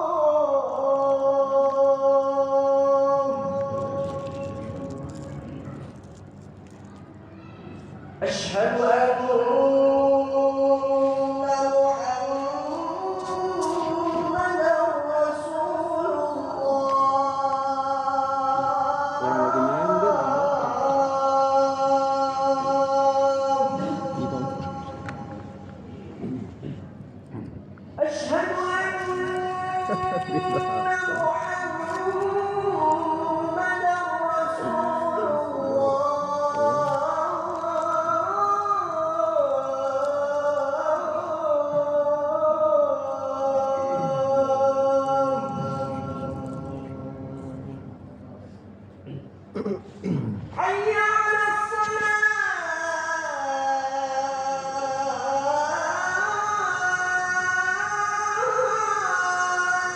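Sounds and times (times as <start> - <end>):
man chanting: 0.0 - 6.2, 8.1 - 26.7, 28.0 - 59.9.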